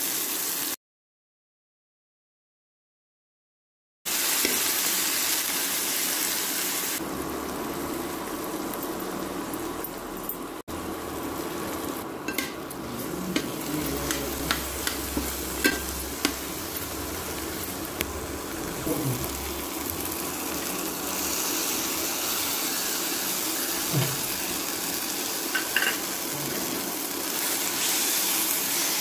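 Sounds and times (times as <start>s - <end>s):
vegetables sizzling in hot oil: 0.0s - 0.8s, 4.1s - 29.0s.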